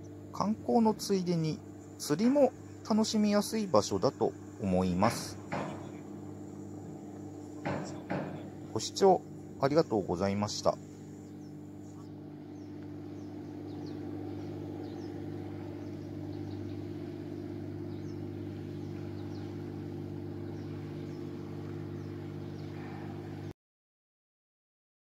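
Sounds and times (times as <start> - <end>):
low machine hum: 0.0 - 23.5.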